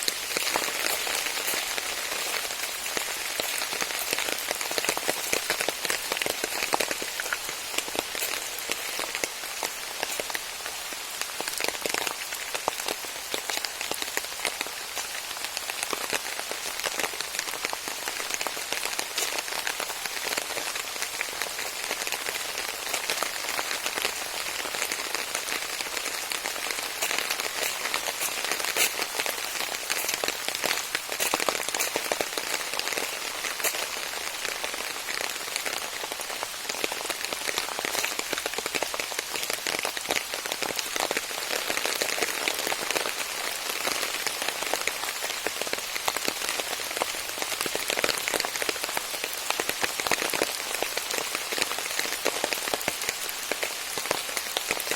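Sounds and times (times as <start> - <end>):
rain drops pattering: 0.0 - 54.9.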